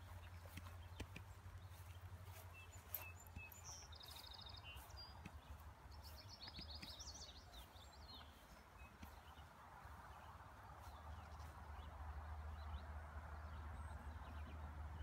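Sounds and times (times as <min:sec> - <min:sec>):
faint songbirds singing: 0:00.0 - 0:15.0.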